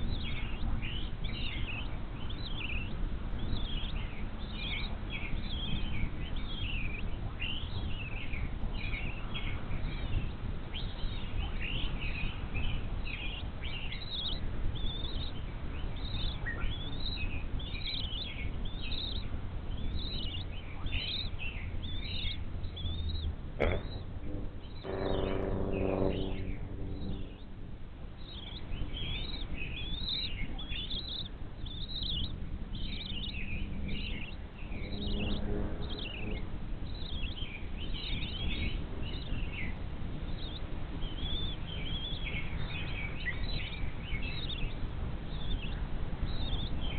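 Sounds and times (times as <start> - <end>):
birds chirping and singing: 0.0 - 46.9
low multi-pitched hum: 0.0 - 46.9
low rumble: 0.0 - 46.9.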